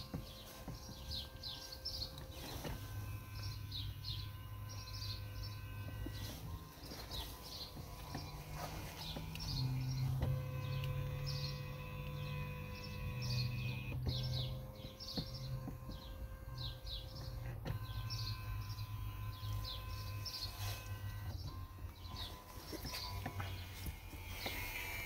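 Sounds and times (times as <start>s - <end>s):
birds chirping: 0.0s - 25.0s
low mechanical hum: 0.0s - 25.0s.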